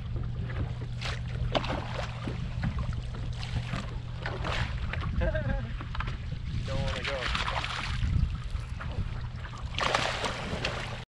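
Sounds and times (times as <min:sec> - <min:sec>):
steady low hum: 0:00.0 - 0:11.0
water splashing against boat hull: 0:00.0 - 0:11.0.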